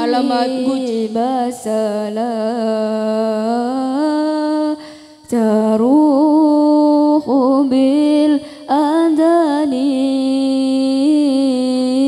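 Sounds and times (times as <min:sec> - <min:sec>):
person singing devotional verse: 0:00.0 - 0:12.0.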